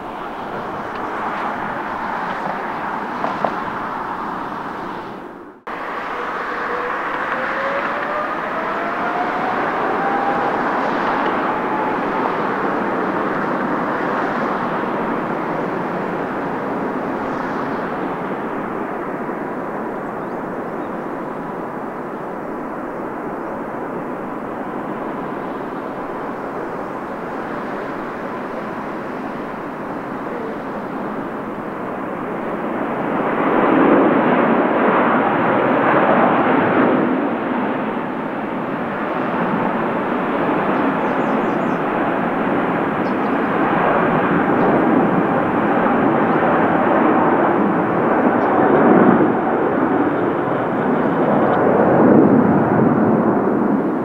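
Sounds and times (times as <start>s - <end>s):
jet engines at takeoff power: 0.0s - 54.0s.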